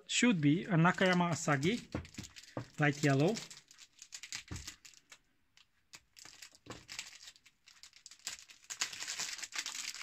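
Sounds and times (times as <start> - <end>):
plastic and paper crinkling: 0.1 - 10.0.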